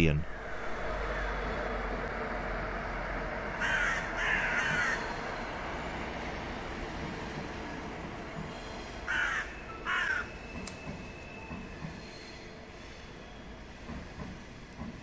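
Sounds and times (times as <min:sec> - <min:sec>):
train rumbling over bridge: 0:00.0 - 0:15.0.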